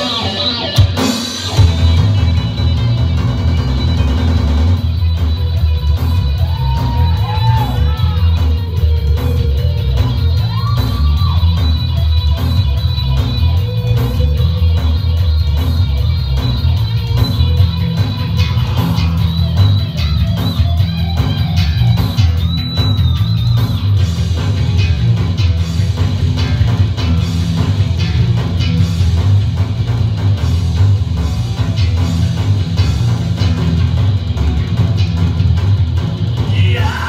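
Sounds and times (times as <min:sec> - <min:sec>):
loud electric guitar rock music: 0:00.0 - 0:37.0.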